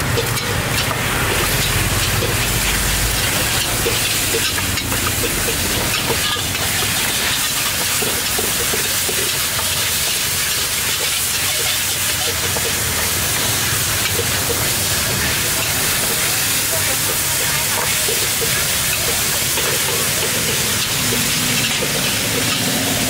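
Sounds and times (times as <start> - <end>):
food sizzling in a frying pan: 0.0 - 23.0
metal ladle scraping a pan: 0.0 - 23.0.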